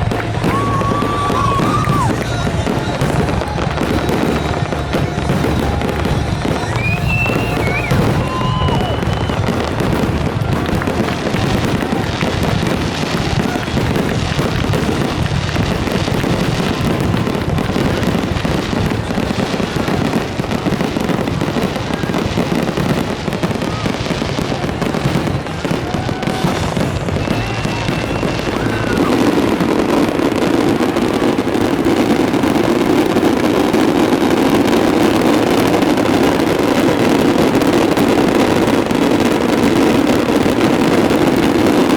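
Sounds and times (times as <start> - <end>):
fireworks crackling and banging: 0.0 - 41.9
fireworks whistling: 0.0 - 41.9.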